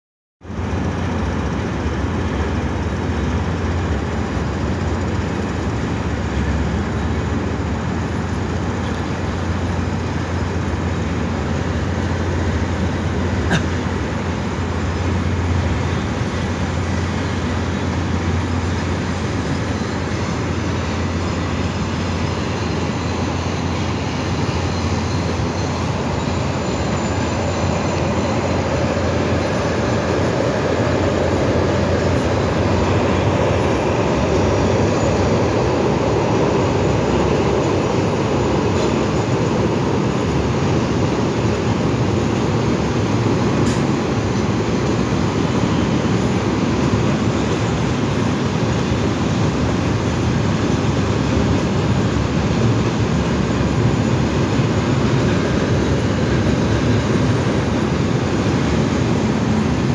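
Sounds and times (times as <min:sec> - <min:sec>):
freight train rumbling past: 0:00.4 - 0:59.9.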